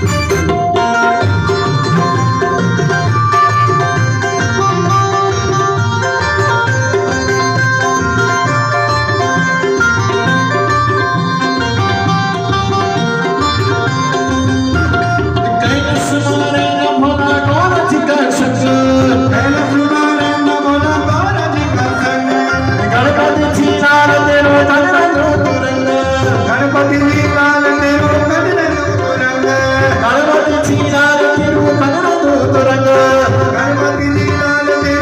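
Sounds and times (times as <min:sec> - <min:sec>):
devotional music: 0:00.0 - 0:35.0
tabla drum beat: 0:00.0 - 0:35.0.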